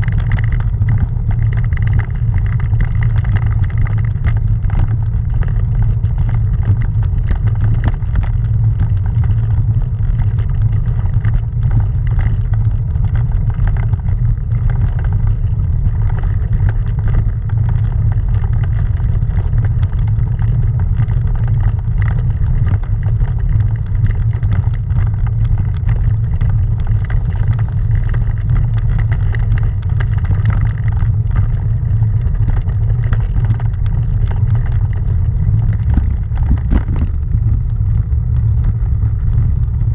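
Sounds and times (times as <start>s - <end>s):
bicycle rolling over cobblestones: 0.0s - 39.9s.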